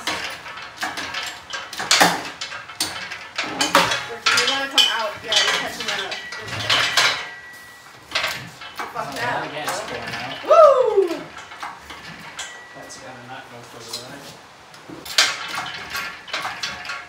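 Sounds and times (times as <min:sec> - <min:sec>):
metallic clanks and knocks: 0:00.0 - 0:17.0.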